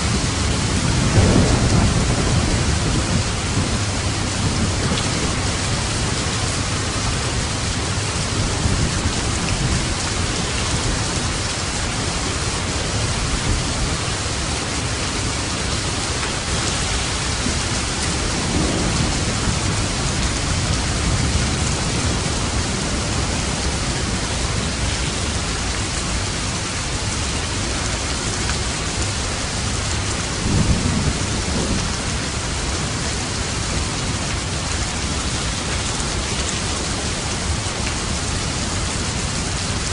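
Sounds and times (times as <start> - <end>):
rolling low thunder: 0.0 - 38.4
heavy rain: 0.0 - 39.9.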